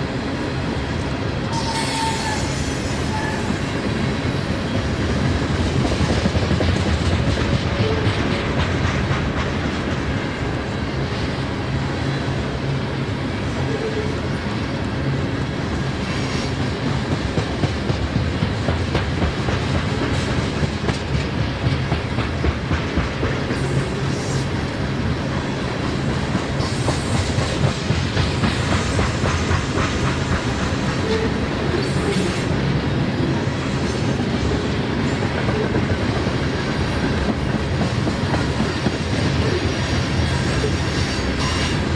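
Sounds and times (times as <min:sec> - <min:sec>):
freight train cars rolling: 0:00.0 - 0:41.9.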